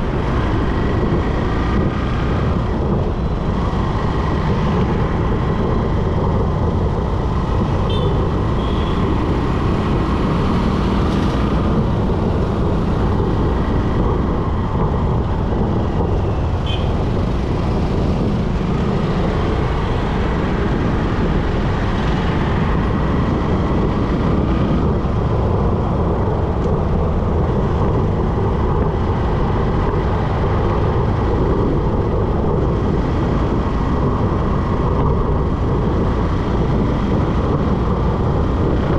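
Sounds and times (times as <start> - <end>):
bike riding through traffic: 0.0 - 38.9
wind and tyre noise: 0.0 - 38.9.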